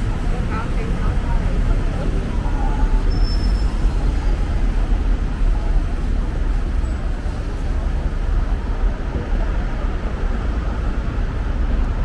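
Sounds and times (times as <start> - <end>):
city street traffic rumble: 0.0 - 12.0.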